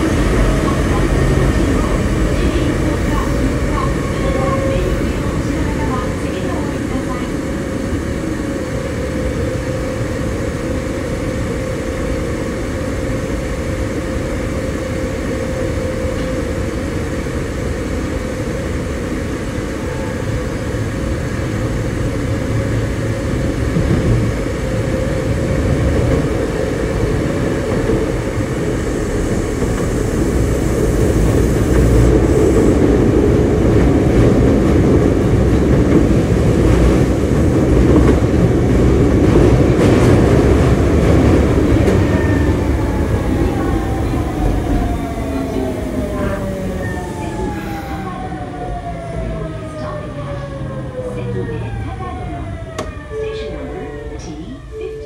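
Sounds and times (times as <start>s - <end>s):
subway train wheels rumbling: 0.0s - 55.0s.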